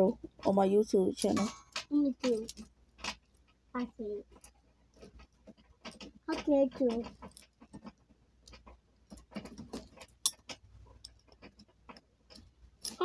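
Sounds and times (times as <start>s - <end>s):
faint clicks and taps: 0.0s - 13.0s.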